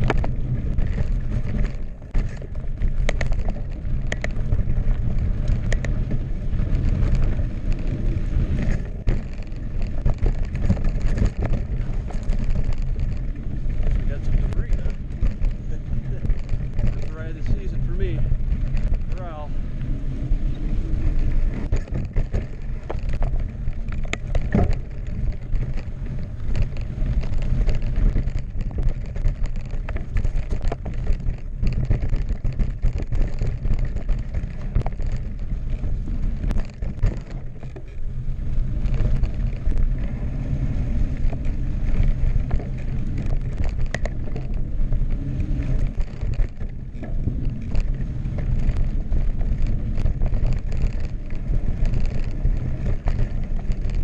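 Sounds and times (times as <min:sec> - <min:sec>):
bike clattering and clicking: 0:00.0 - 0:54.0
tyres crunching on dirt: 0:00.0 - 0:54.0
wind buffeting microphone: 0:00.0 - 0:54.0.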